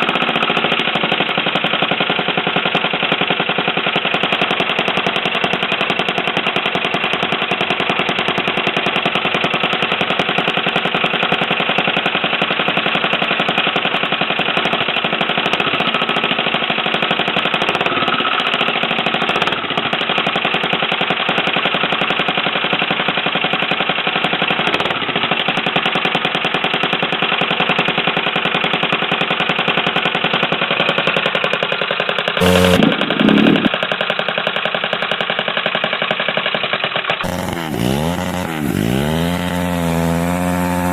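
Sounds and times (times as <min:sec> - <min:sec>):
small motorbike engine running: 0:00.0 - 0:40.9.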